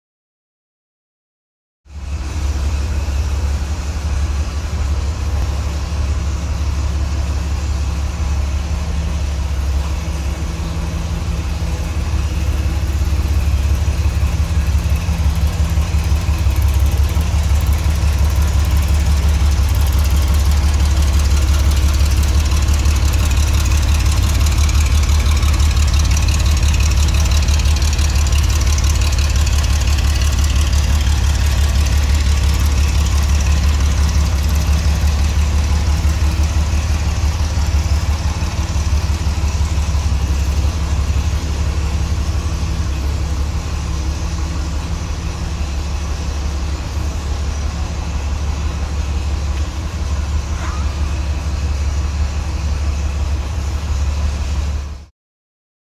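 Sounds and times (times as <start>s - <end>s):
car engine idling: 1.9s - 55.1s.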